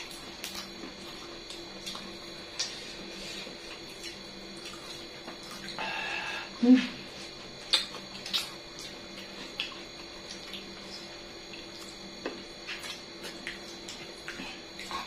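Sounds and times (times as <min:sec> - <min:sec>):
person chewing and smacking: 0:00.0 - 0:05.8, 0:07.1 - 0:15.0.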